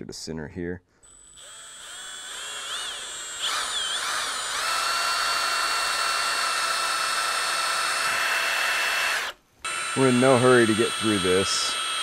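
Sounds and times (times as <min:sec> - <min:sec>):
cordless drill whine: 0:01.0 - 0:12.0.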